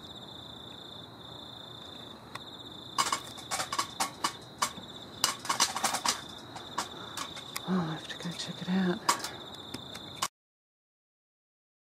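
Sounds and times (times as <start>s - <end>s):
cricket chirping: 0.0s - 10.3s.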